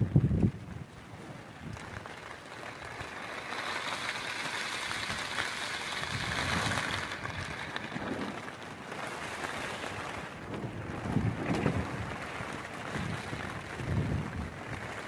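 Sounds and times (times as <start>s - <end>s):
wind buffeting microphone: 0.0s - 3.2s, 4.1s - 15.0s.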